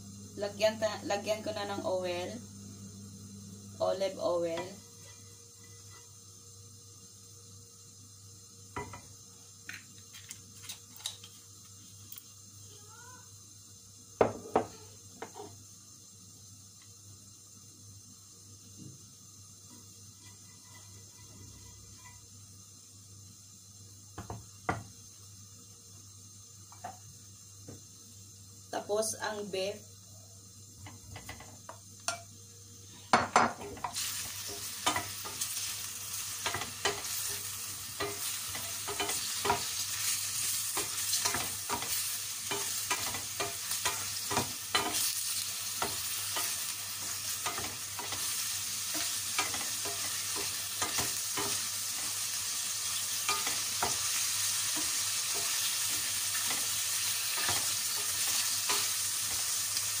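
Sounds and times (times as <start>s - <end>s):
meat sizzling in oil: 0.0s - 60.0s.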